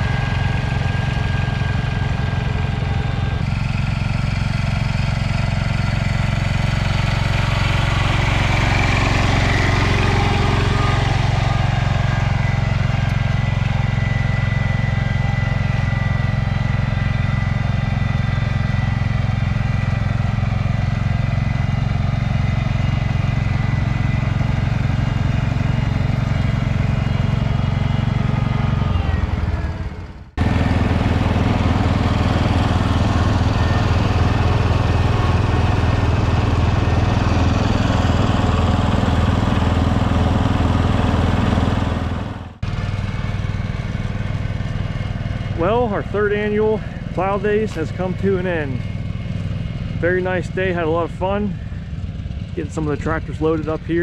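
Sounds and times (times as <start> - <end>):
small tractor engine running: 0.0 - 54.0.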